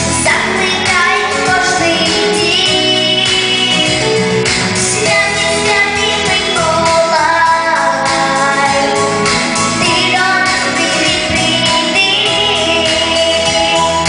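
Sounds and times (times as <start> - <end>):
instrumental accompaniment: 0.0 - 14.0
woman singing: 0.1 - 14.0.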